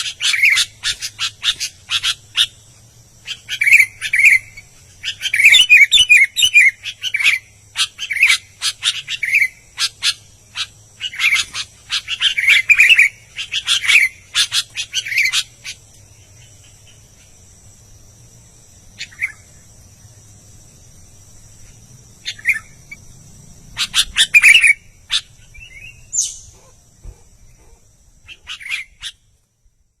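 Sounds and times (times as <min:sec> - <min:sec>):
bird singing chirpy phrases: 0:00.0 - 0:17.5, 0:18.5 - 0:20.6, 0:21.2 - 0:29.2.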